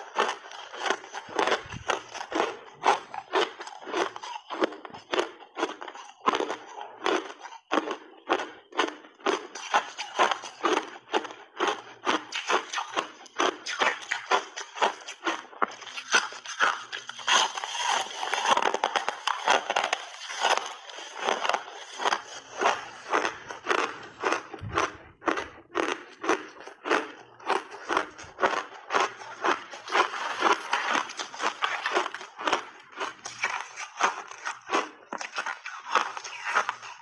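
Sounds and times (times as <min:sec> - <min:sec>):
chewing crushed ice: 0:00.0 - 0:37.0.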